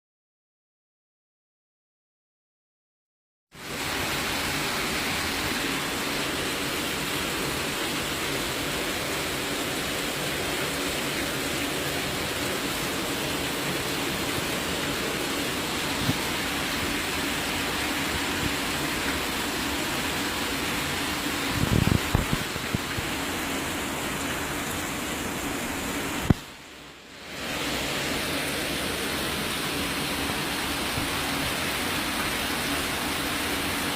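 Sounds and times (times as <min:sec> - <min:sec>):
torrential rain pouring: 0:03.5 - 0:33.9.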